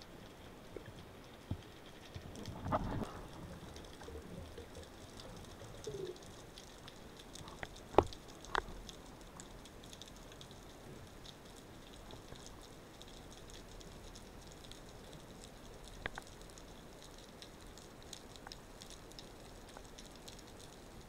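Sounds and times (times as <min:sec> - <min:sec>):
underwater crackle of clicks: 0:00.1 - 0:21.0.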